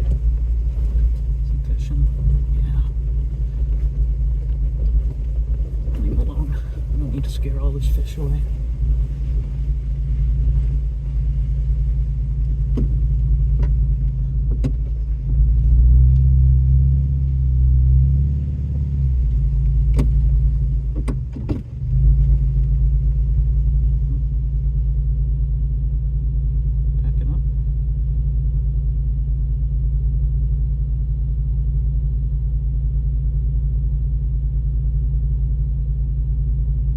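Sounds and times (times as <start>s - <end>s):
truck engine running: 0.0s - 36.9s.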